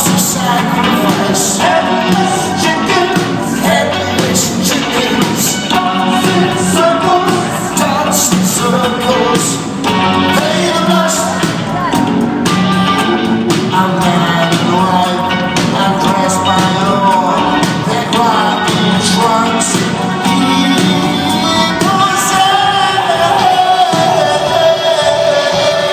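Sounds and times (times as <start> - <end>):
drums hitting: 0.0 - 25.9
live rock band: 0.0 - 25.9.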